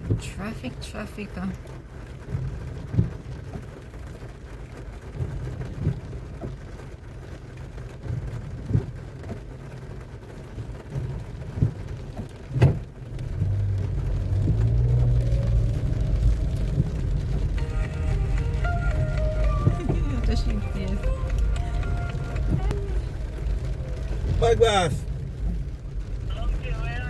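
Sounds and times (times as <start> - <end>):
car engine rumble: 0.0 - 27.0
rain: 0.0 - 27.0.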